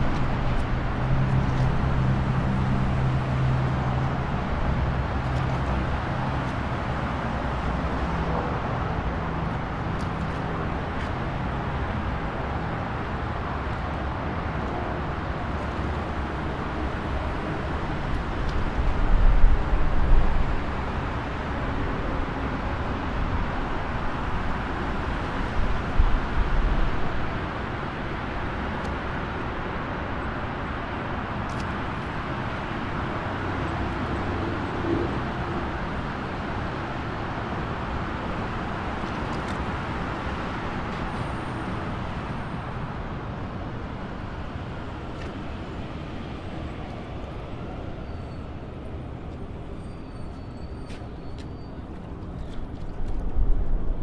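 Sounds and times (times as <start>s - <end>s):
highway traffic noise: 0.0s - 54.0s.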